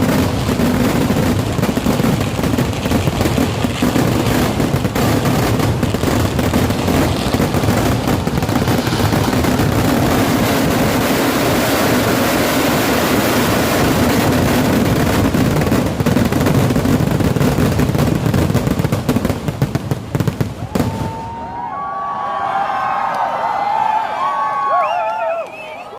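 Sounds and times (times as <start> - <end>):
firecrackers banging: 0.0 - 21.9.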